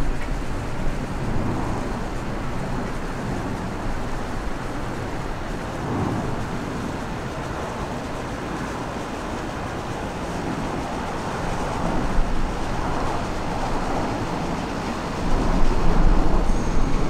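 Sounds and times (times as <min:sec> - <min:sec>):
jet airliner flying over: 0:00.0 - 0:17.0.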